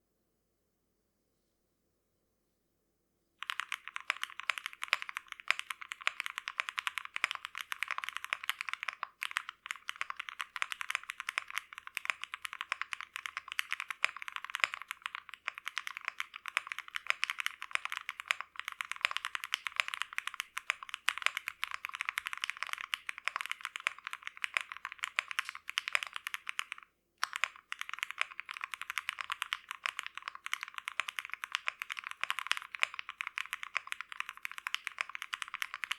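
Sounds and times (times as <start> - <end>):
mechanical keyboard typing: 3.4 - 35.9.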